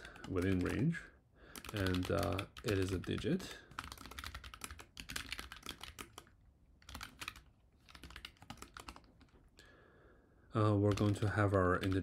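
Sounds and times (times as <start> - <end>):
typing on computer keyboard: 0.0 - 0.8, 1.5 - 9.4, 10.8 - 12.0.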